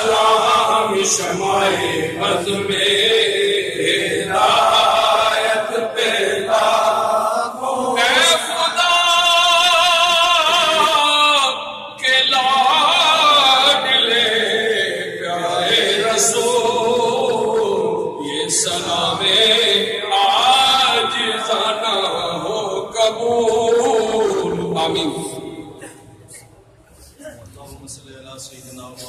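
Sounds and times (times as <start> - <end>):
man chanting into a microphone: 0.0 - 6.0, 7.0 - 25.9.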